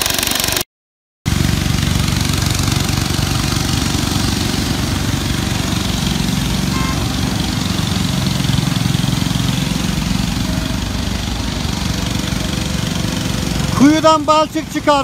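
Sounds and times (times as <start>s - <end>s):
excavator diesel engine running: 0.0s - 0.6s, 1.3s - 15.0s.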